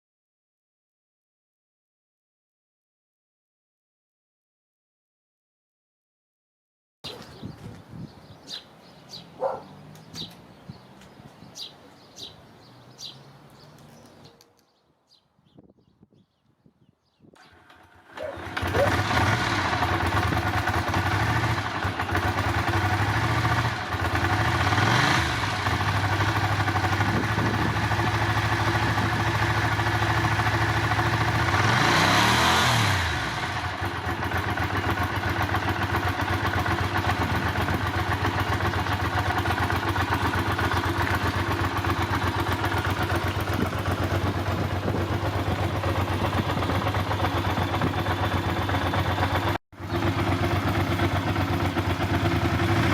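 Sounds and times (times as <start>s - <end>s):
motorcycle engine idling and revving: 7.1s - 14.5s, 17.4s - 52.9s.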